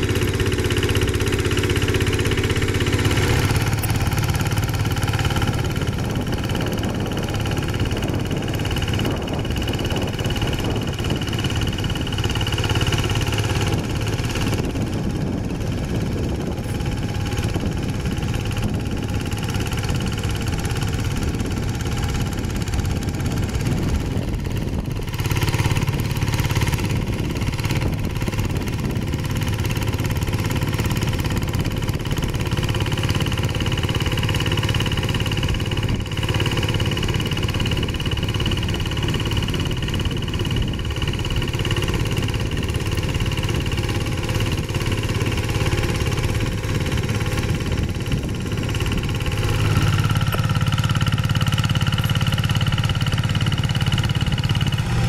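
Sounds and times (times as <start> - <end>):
diesel engine running under load: 0.0 - 55.0
rotary tiller churning soil: 0.0 - 55.0.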